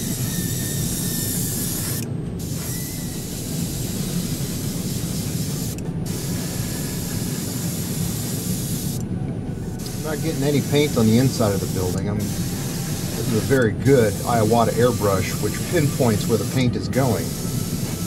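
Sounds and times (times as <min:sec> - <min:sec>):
airbrush spraying hiss: 0:00.0 - 0:09.0, 0:09.8 - 0:18.0
steady low hum: 0:00.0 - 0:18.0.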